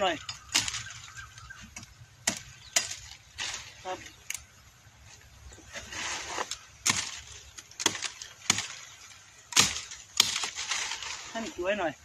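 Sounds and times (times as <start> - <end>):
machete chopping branches: 0.0 - 4.5, 5.8 - 11.5.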